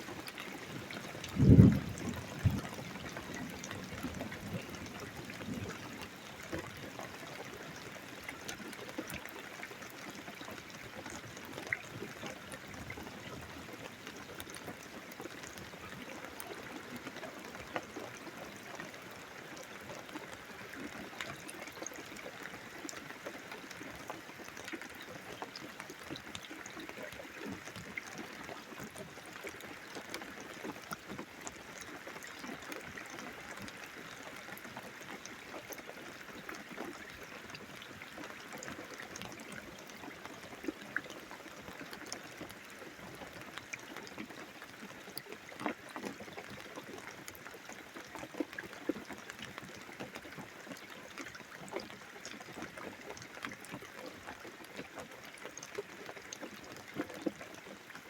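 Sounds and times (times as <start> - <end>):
steady rain: 0.0 - 58.0
water drips and splashes: 0.0 - 58.0.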